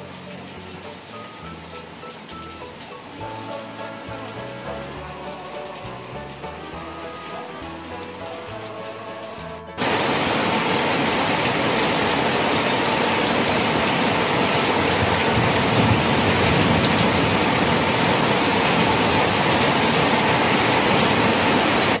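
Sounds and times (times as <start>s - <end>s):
rain falling on stone paving: 0.0s - 22.0s.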